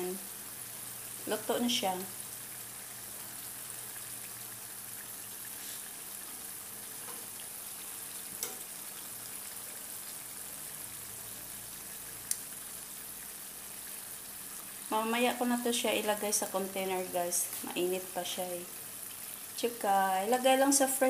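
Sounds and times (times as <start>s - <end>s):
chili sauce sizzling: 0.0s - 21.0s.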